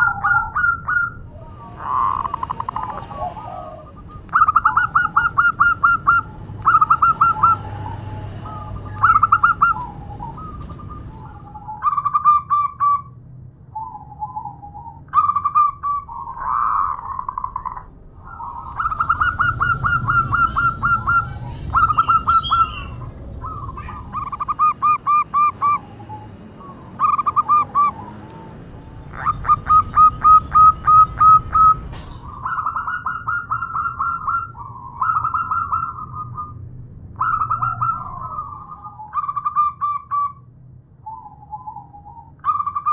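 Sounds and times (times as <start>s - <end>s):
dove cooing: 0.0s - 13.1s, 13.8s - 36.6s, 37.2s - 40.4s, 41.0s - 42.9s.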